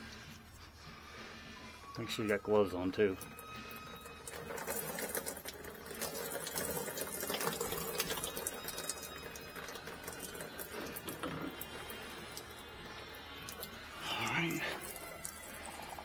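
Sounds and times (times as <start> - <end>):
fuel trickling into a pan: 0.0 - 16.0.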